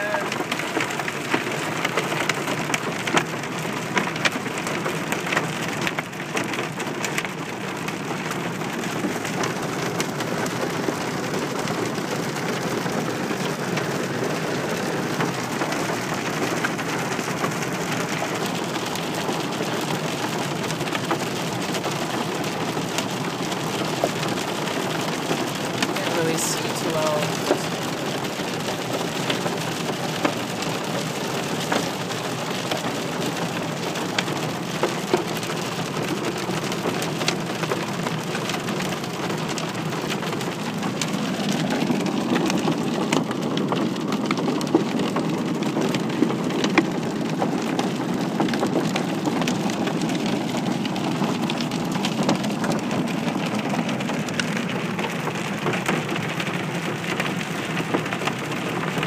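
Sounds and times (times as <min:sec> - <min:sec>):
heavy rain on a car roof: 0:00.0 - 0:59.0.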